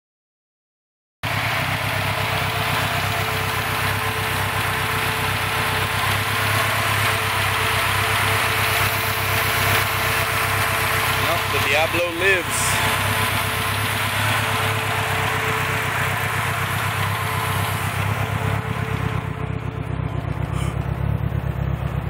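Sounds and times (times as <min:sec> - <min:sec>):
turbocharged car engine idling: 0:01.2 - 0:22.0.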